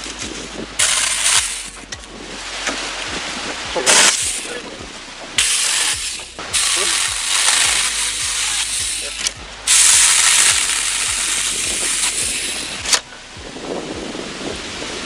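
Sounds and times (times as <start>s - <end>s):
chainsaw cutting branch: 0.0s - 4.8s, 5.4s - 13.1s.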